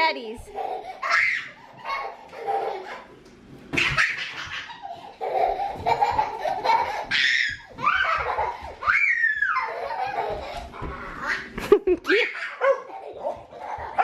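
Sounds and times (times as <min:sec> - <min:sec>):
young children laughing: 0:00.5 - 0:14.0.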